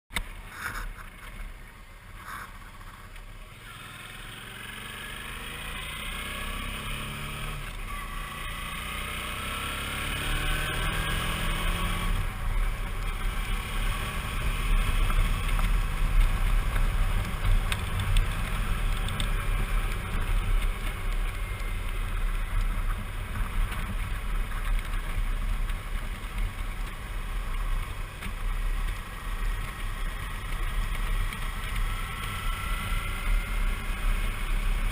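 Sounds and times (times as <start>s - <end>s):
motorcycle engine accelerating: 0.4s - 34.9s.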